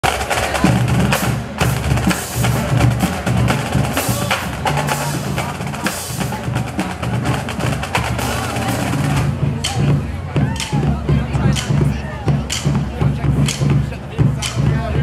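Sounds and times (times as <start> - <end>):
marching drumline playing: 0.0 - 15.0.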